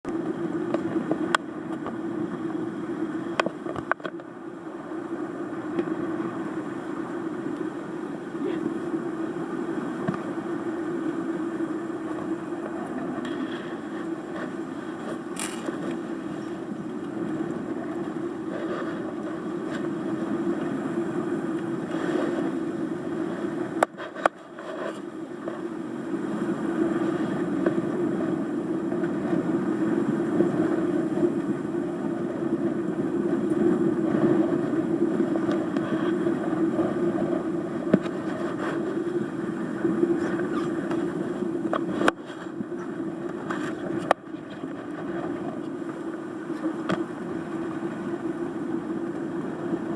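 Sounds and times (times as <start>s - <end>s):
sailboat running in a gale: 0.0s - 49.9s.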